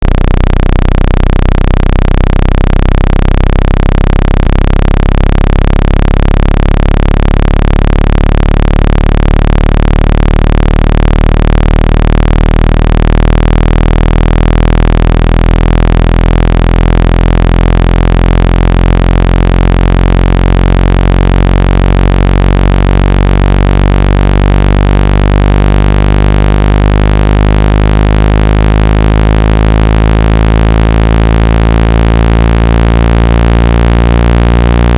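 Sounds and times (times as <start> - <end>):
low-pitched electronic tone: 0.0 - 34.9.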